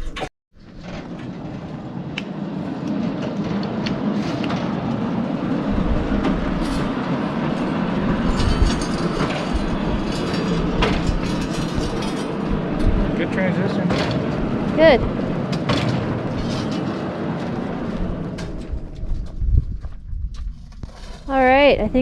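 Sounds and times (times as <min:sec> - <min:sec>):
sawmill rattling and clattering: 0:00.0 - 0:19.5
heavy low rumble: 0:00.0 - 0:22.0.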